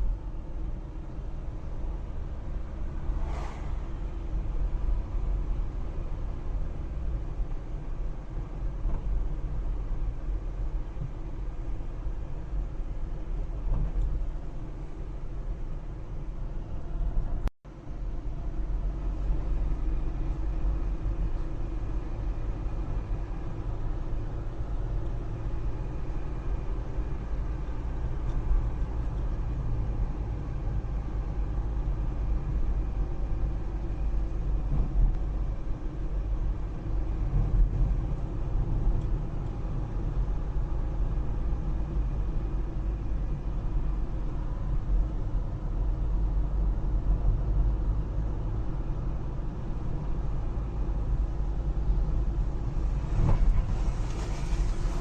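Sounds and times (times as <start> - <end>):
low rumble: 1.5 - 10.1, 12.5 - 55.0.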